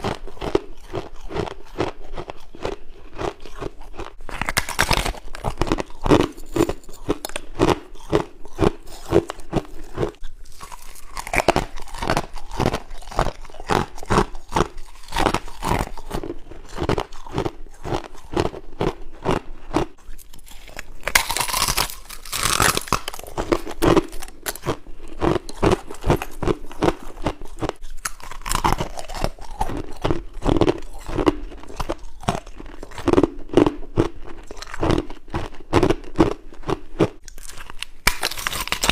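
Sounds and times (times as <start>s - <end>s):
ice crunching while chewing: 0.0s - 38.9s.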